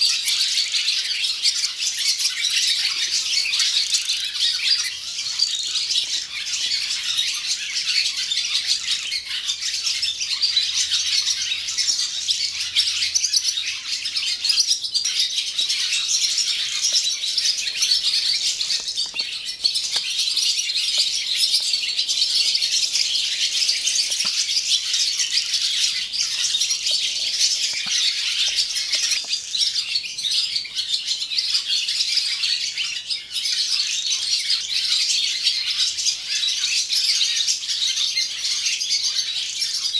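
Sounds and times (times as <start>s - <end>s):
swallows twittering: 0.0s - 39.9s.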